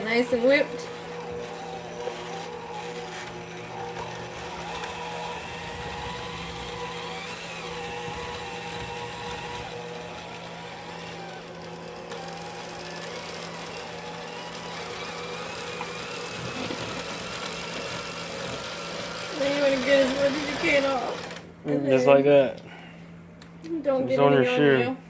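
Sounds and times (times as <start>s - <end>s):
electric mixer whining: 0.0s - 21.6s.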